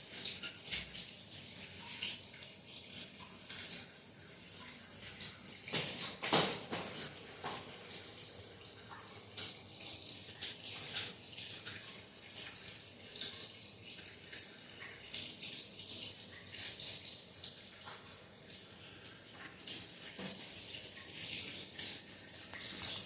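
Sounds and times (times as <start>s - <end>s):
water running and splashing: 0.0s - 23.0s.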